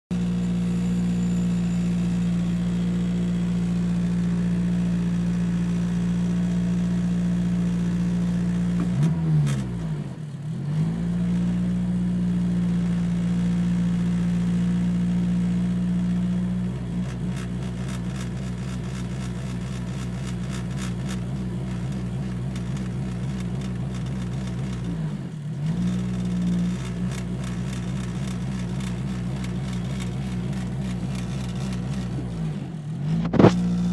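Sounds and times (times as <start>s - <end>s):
car engine idling loudly: 0.1s - 10.6s, 11.5s - 33.9s.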